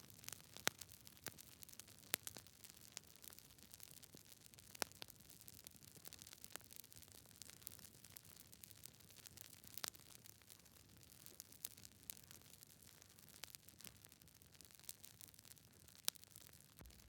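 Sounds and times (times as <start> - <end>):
campfire crackling: 0.1 - 17.0.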